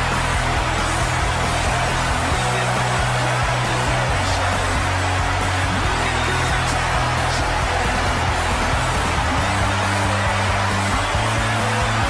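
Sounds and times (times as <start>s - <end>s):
arena music: 0.0s - 12.0s
crowd cheering: 0.0s - 12.0s.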